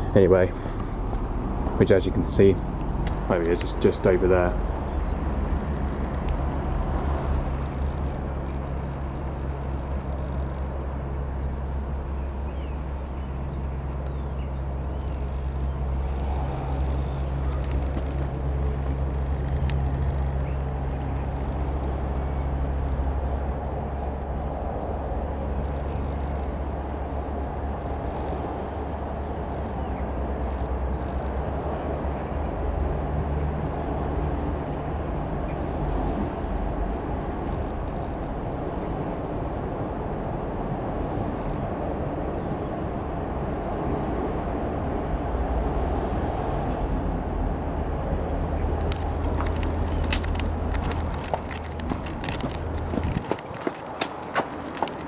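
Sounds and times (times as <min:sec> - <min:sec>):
distant aircraft engine droning: 0:00.0 - 0:55.0.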